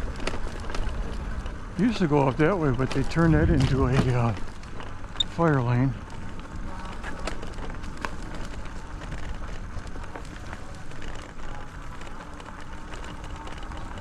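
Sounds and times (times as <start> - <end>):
bicycle tyres rolling over sand: 0.0 - 14.0.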